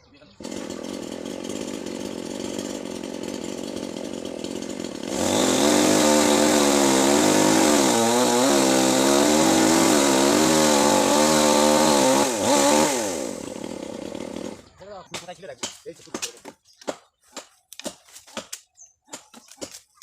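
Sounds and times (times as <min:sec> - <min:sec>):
chainsaw cutting wood: 0:00.4 - 0:20.0.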